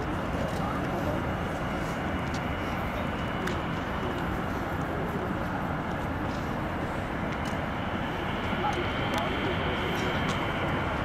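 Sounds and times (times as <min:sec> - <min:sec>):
faint high engine whine: 0:00.0 - 0:11.0
jet engines rumbling: 0:00.0 - 0:11.0.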